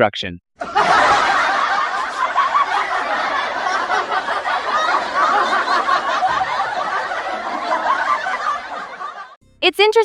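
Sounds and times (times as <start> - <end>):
crowd laughing: 0.6 - 9.4.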